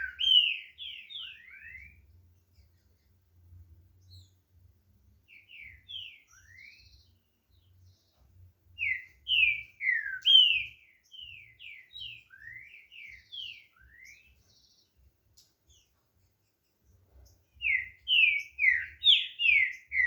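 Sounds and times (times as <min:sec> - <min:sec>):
bird singing whistled notes: 0:00.0 - 0:03.2, 0:03.9 - 0:04.5, 0:05.2 - 0:20.0.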